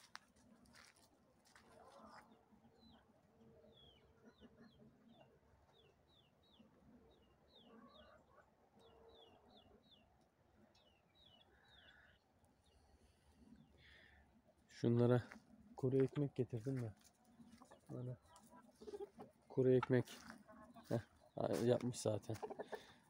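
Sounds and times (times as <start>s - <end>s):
faint chickens clucking: 0.0s - 23.0s.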